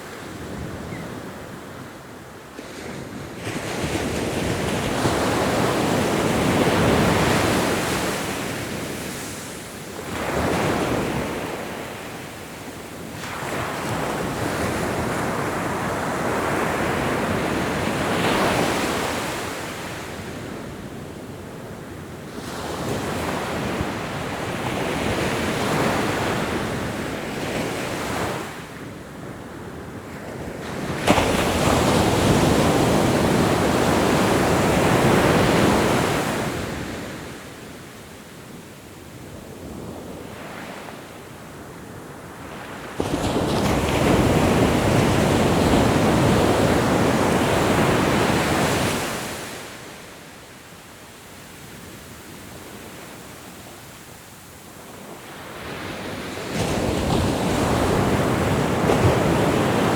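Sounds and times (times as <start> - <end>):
ocean waves breaking on shore: 0.0 - 21.0, 30.1 - 37.9, 39.6 - 50.6, 51.5 - 59.9.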